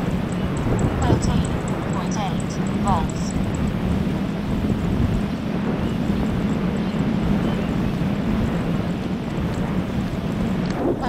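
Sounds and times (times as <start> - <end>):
electric motor and propeller drone: 0.0 - 11.0
rush of air: 0.0 - 11.0.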